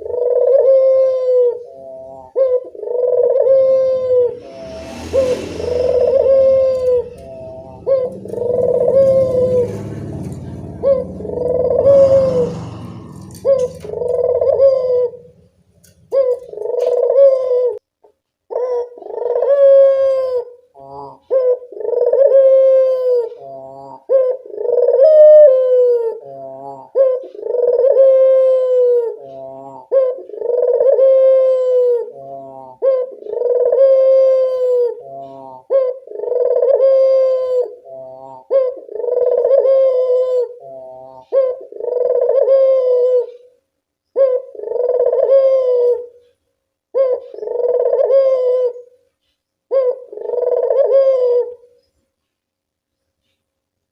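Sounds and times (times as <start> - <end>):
dove cooing: 0.0 - 17.9, 18.5 - 43.5, 44.2 - 46.3, 46.9 - 49.0, 49.7 - 51.8.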